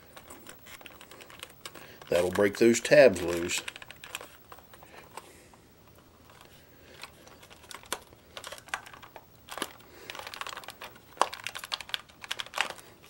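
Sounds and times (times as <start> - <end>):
plastic clicking and crackling: 0.0 - 5.2, 5.8 - 13.0.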